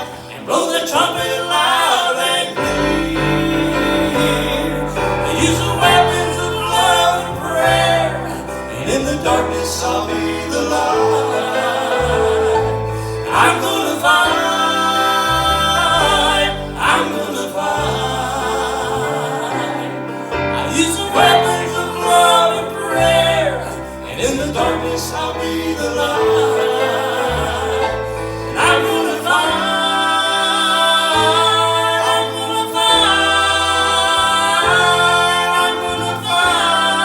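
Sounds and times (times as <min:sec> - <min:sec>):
gospel singing: 0:00.0 - 0:37.0.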